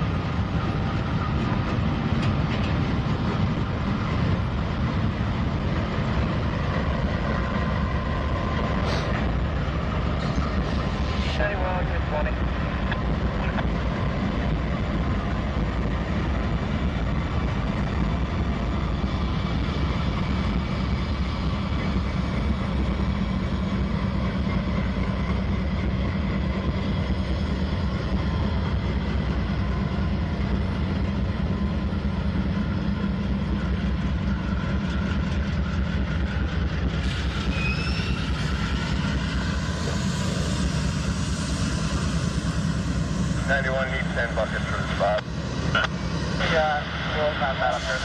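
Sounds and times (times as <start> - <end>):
locomotive engines droning: 0.0 - 48.0
rail noise: 0.0 - 48.0.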